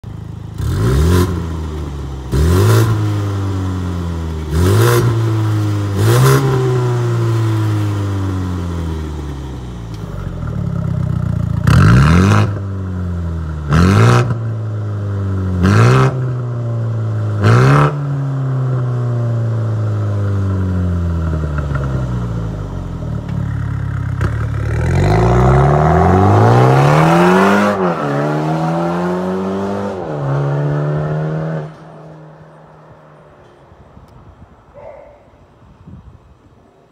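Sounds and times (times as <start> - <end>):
car engine revving: 0.5 - 9.3, 9.9 - 19.0, 21.0 - 33.2.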